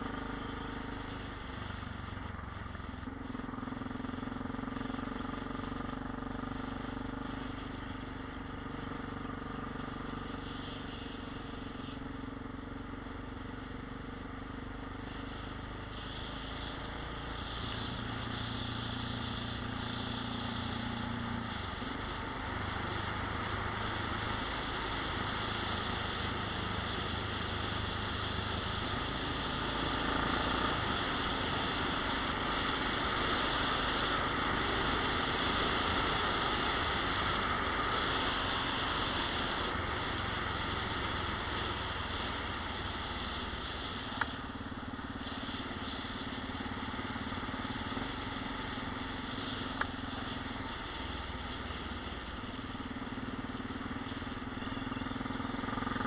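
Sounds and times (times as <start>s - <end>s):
vehicle engine running: 0.0s - 56.0s
wind and road noise: 0.0s - 56.0s.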